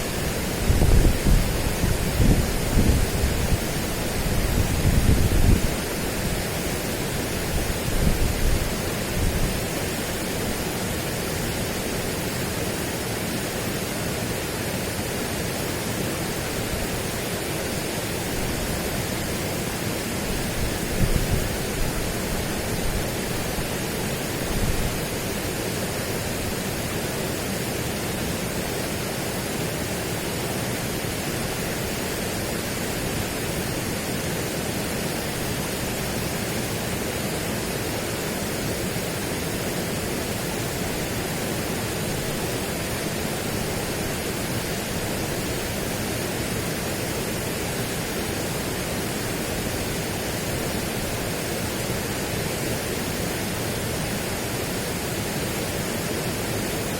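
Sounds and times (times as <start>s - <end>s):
steady rushing noise: 0.0s - 56.9s.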